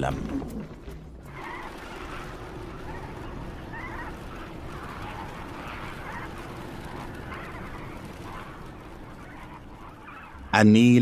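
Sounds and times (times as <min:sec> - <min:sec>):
flock of flamingos calling: 0:01.3 - 0:10.6.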